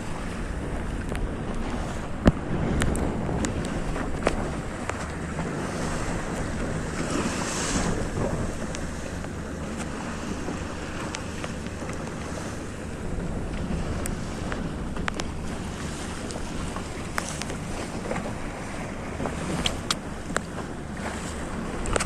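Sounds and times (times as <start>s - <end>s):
boat motor running: 0.0s - 22.0s
water washing against hull: 0.0s - 22.0s
wind buffeting microphone: 0.0s - 22.0s.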